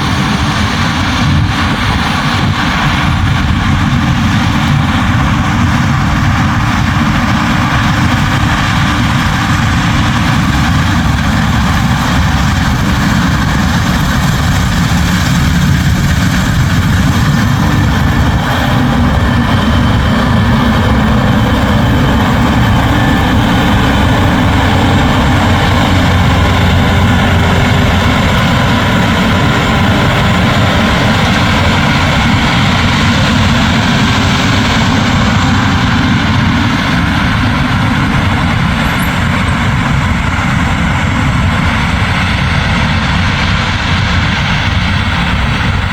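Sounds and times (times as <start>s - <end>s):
combine harvester droning: 0.0s - 45.9s.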